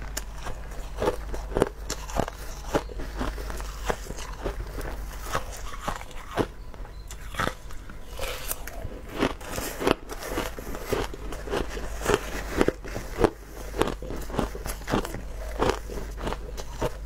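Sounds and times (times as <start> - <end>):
crushed ice being chewed: 0.0 - 17.0.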